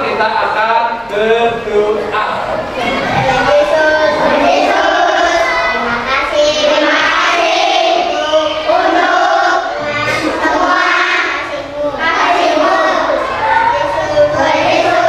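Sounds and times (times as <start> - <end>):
children praying in unison: 0.0 - 15.0.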